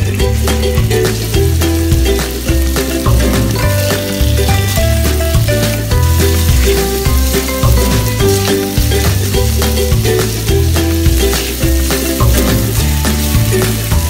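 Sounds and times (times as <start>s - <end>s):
background music with bass line: 0.0s - 14.0s
chicken sizzling in a pot: 0.0s - 14.0s
spatula stirring: 0.8s - 14.0s.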